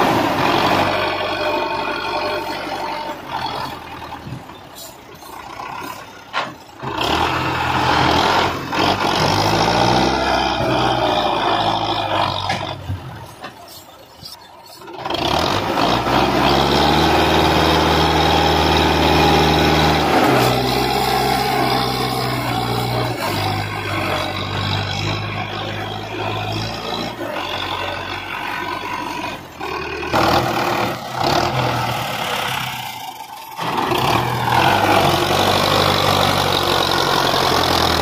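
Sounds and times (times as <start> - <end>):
tractor diesel engine labouring: 0.0 - 38.0.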